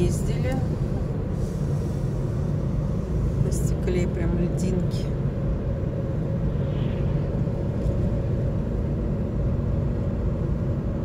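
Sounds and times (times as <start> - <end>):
car road rumble inside cabin: 0.0 - 11.0.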